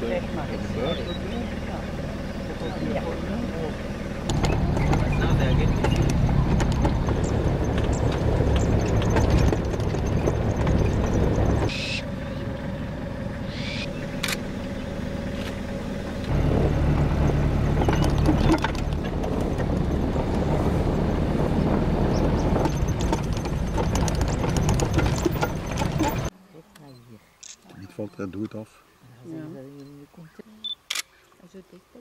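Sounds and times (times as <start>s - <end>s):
vehicle engine running: 0.0s - 26.3s.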